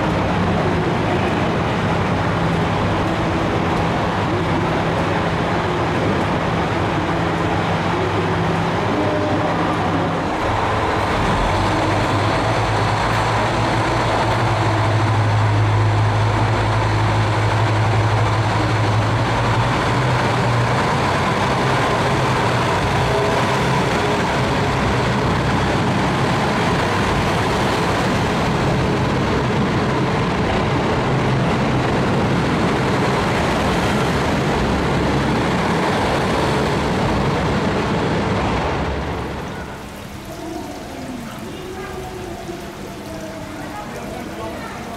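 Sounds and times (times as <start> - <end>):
diesel railcar engines droning: 0.0 - 44.9
mechanical and station noise: 0.0 - 44.9.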